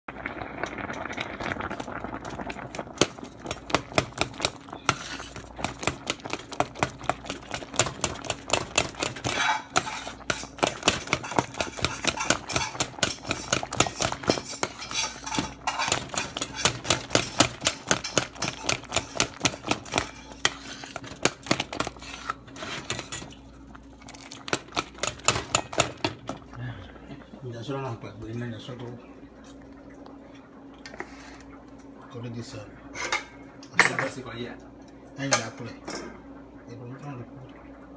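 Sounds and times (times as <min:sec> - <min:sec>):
faint steady hum: 0:00.1 - 0:37.9.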